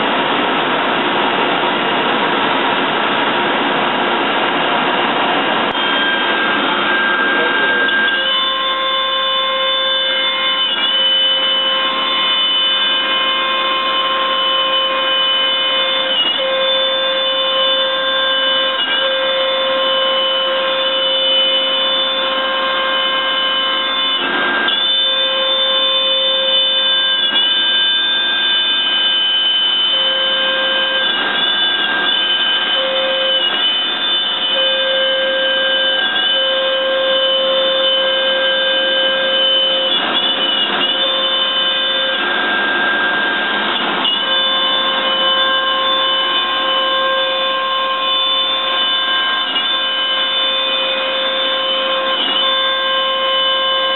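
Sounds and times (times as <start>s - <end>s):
electric motor whining: 5.3s - 53.9s.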